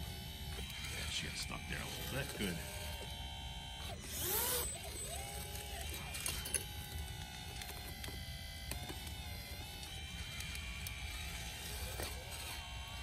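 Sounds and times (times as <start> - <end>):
hydraulic pump whining: 0.0 - 13.0.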